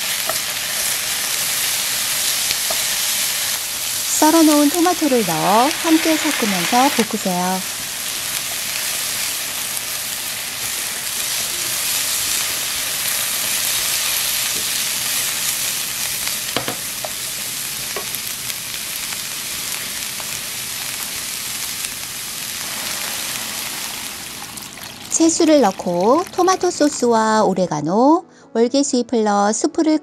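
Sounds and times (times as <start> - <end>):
vegetables sizzling in frying pan: 0.0 - 27.1.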